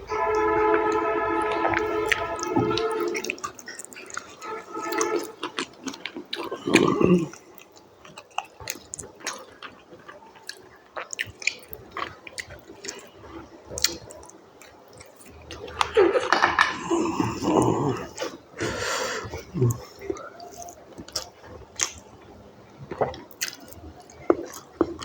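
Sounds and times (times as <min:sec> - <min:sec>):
chewing and wet mouth sounds: 0:00.0 - 0:25.0.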